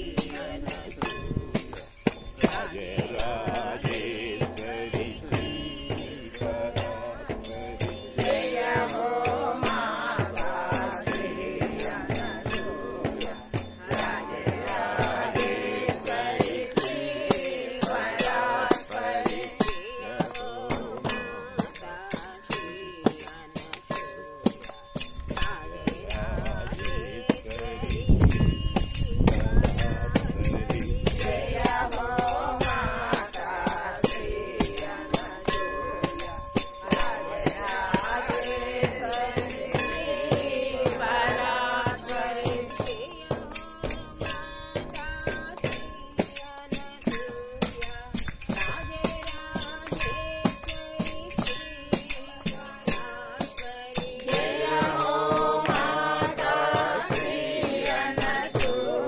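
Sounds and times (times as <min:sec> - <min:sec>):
group singing a chant: 0:00.0 - 0:59.0
hand cymbals clinking: 0:00.0 - 0:59.0.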